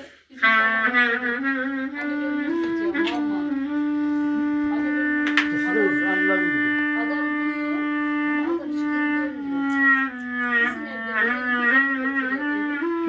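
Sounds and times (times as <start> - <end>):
wind instrument folk melody: 0.0 - 13.0.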